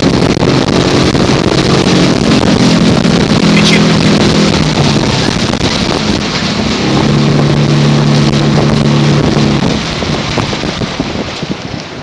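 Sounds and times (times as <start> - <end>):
motorboat engine running: 0.0 - 12.0
wind and water rushing: 0.0 - 12.0.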